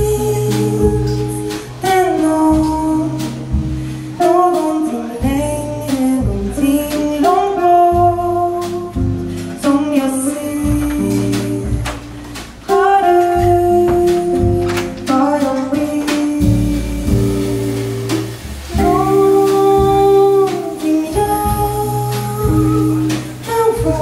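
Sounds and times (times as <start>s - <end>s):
woman singing: 0.0s - 3.6s, 4.2s - 9.0s, 9.6s - 12.1s, 12.7s - 24.0s
drum kit with cymbals: 0.0s - 24.0s
guitar: 0.0s - 24.0s
plucked double bass: 0.0s - 24.0s.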